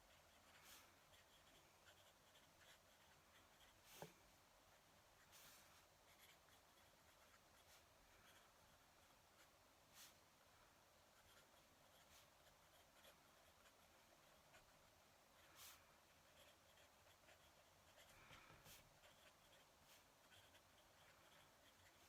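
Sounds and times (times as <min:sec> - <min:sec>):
pen nib scratching on paper: 0:00.0 - 0:10.2, 0:11.1 - 0:22.0.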